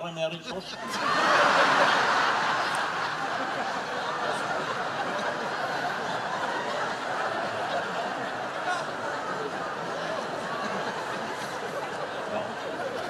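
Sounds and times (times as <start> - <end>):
crowd laughing: 0.5 - 13.0.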